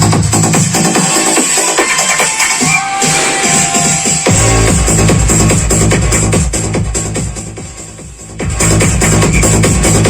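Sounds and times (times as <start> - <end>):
electronic dance music over speaker: 0.0 - 10.0.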